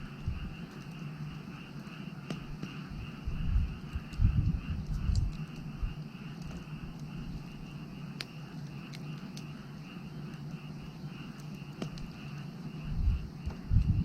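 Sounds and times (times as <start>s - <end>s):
fire crackling pops: 0.0s - 14.0s
firewood burning: 0.0s - 14.0s
frogs calling: 0.0s - 14.0s.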